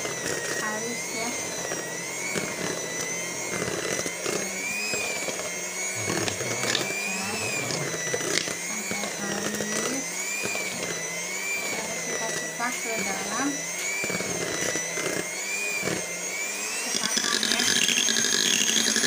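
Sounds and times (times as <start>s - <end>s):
electric hand mixer whining: 0.0s - 19.0s.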